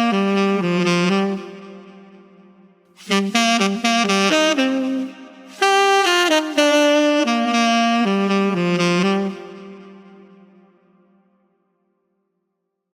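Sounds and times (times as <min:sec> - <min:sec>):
saxophone melody: 0:00.0 - 0:11.2.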